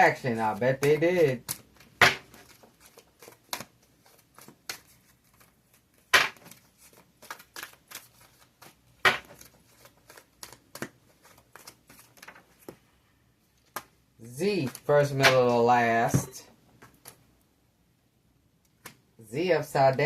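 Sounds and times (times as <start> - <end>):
cards being shuffled: 0.2 - 12.9, 13.5 - 17.2.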